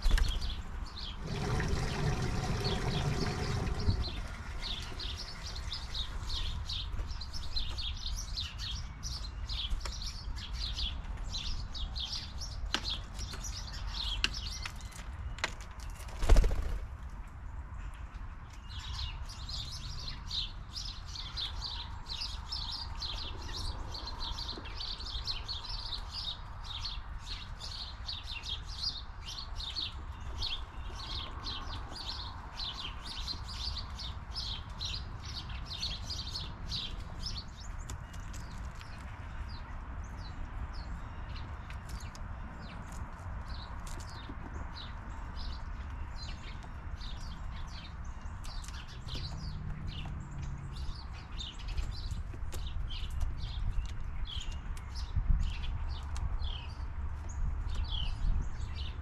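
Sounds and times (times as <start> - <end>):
small songbirds chirping: 0.0 - 59.0.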